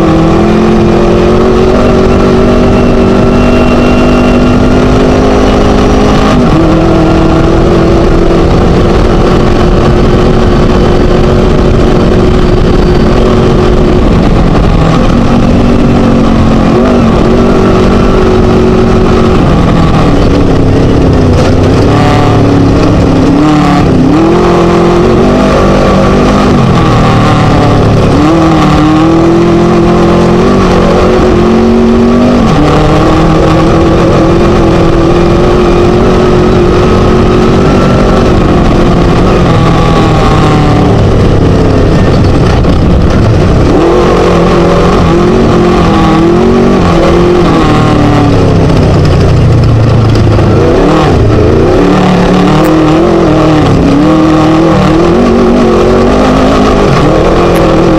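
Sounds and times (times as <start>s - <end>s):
chassis noise: 0.0s - 57.9s
race buggy engine running hard: 0.0s - 57.9s
rush of wind: 0.0s - 57.9s.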